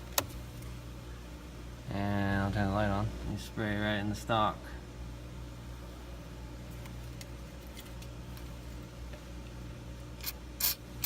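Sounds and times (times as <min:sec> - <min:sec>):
low steady car hum: 0:00.0 - 0:11.0.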